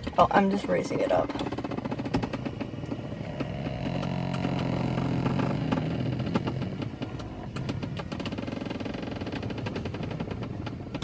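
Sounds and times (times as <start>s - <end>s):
power seat motor whirring: 1.2s - 11.0s.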